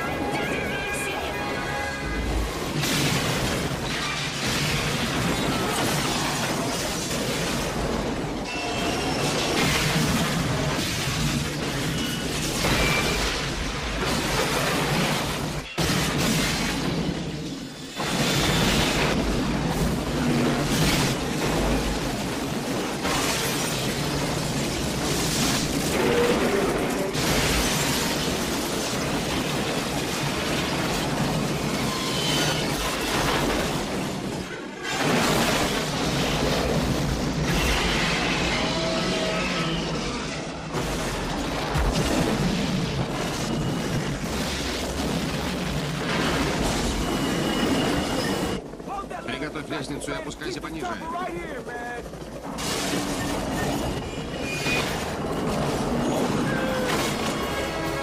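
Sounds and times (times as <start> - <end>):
train rumbling on rails: 0.0 - 6.6, 7.4 - 15.8, 16.6 - 23.1, 23.9 - 58.0
loud crashes and shattering: 0.0 - 50.2, 51.4 - 58.0.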